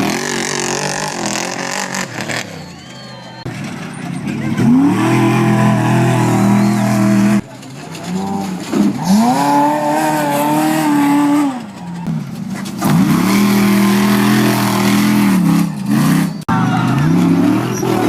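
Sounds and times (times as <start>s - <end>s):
truck engines revving high: 0.0s - 18.0s.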